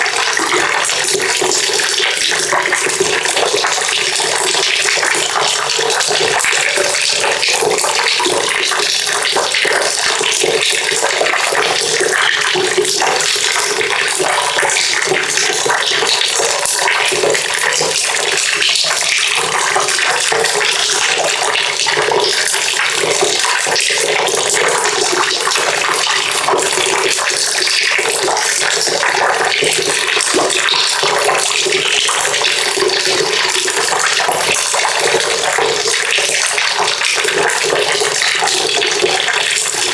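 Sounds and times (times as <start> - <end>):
water pouring into a bucket: 0.0 - 39.9.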